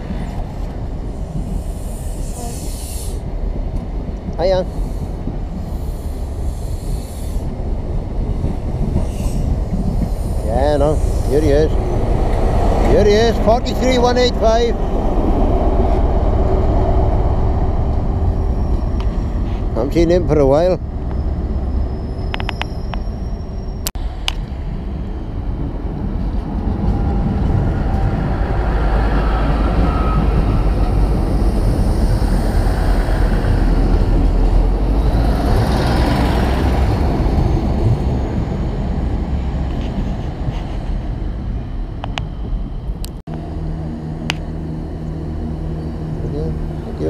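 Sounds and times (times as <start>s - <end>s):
diesel trains rumbling past: 0.0s - 47.0s.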